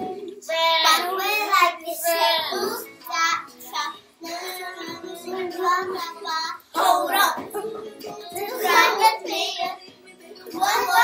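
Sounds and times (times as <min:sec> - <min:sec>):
children singing: 0:00.0 - 0:11.0.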